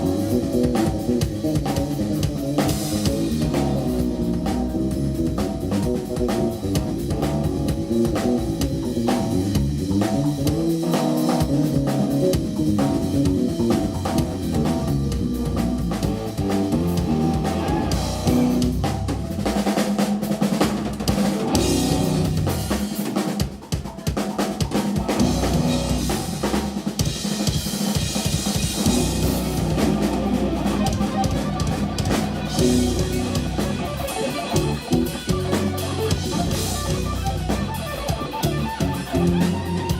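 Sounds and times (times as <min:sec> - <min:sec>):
drum kit: 0:00.0 - 0:39.9
jazz-rock band playing: 0:00.0 - 0:39.9.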